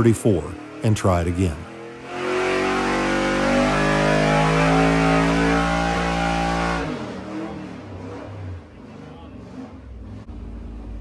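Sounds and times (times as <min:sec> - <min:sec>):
engine running at full throttle: 0:00.0 - 0:11.0.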